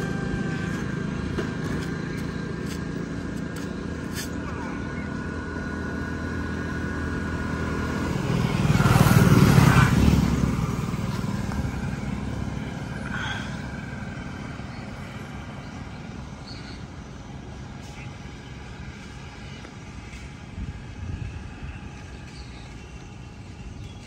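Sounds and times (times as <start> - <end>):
vehicle passing by: 0.0 - 24.0.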